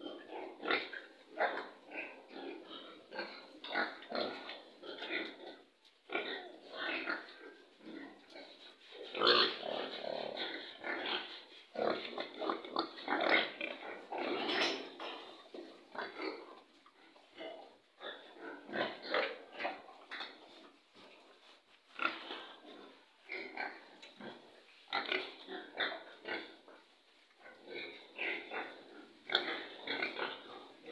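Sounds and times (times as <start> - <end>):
young pigs grunting: 0.0 - 20.4, 22.0 - 26.8, 27.4 - 30.9.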